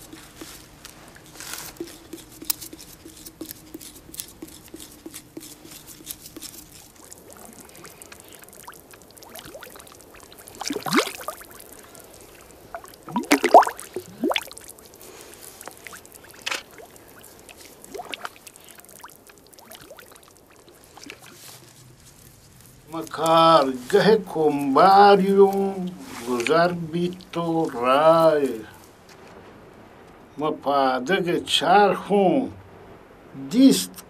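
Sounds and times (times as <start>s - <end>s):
water pouring and splashing: 0.0s - 28.7s.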